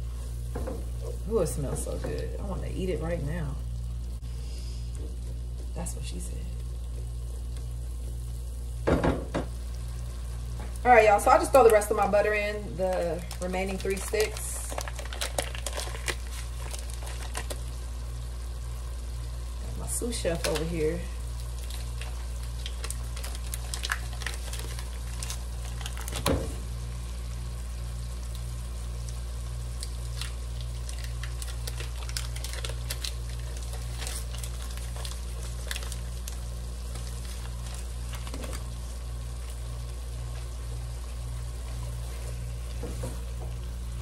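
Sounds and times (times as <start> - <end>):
onions sizzling in a pot: 0.0 - 44.0
crackles and pops: 4.9 - 44.0.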